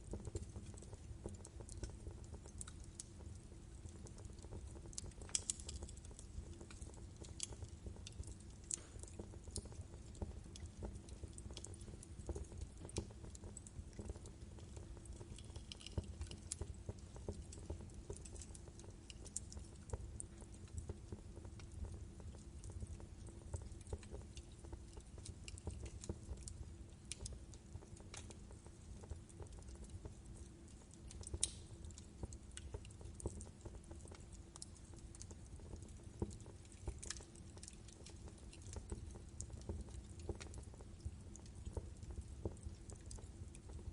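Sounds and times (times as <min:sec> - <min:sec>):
fire crackling and popping: 0:00.0 - 0:43.9
low rumble of fire: 0:00.0 - 0:43.9.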